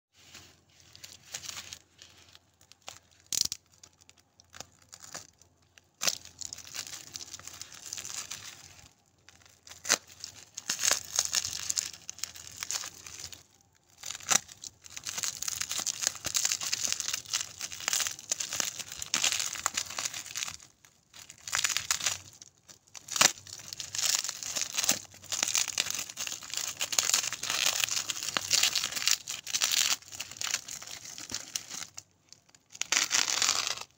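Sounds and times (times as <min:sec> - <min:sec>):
crinkling and rustling: 0:00.1 - 0:33.9.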